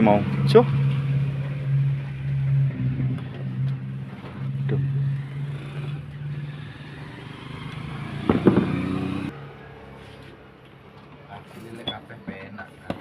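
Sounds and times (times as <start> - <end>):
vehicle engine humming: 0.0 - 12.8.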